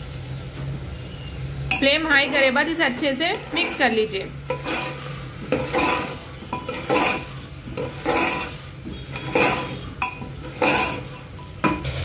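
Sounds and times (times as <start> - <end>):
food sizzling: 0.0 - 12.0
spoon scraping pressure cooker: 1.7 - 12.0.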